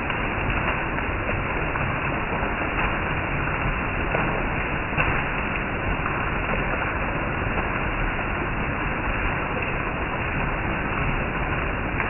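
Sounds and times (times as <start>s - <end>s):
heavy rain on leaves and roof: 0.0s - 12.0s.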